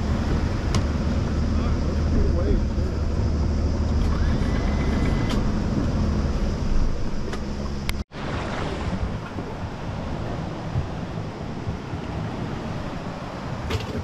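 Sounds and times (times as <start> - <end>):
motorboat engine low hum: 0.0 - 14.0
wind: 0.0 - 14.0.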